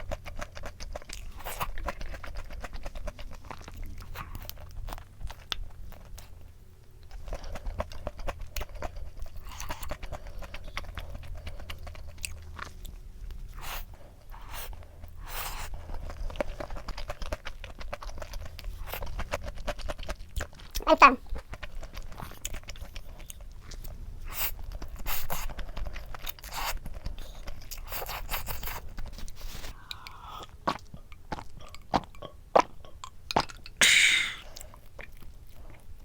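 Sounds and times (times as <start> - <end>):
chewing crunchy food: 0.0 - 36.0.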